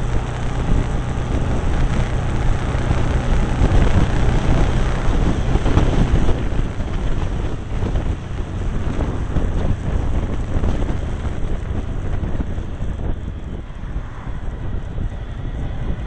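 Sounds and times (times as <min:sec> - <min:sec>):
motorcycle engine rumble: 0:00.0 - 0:16.0
wind buffeting microphone: 0:00.0 - 0:16.0.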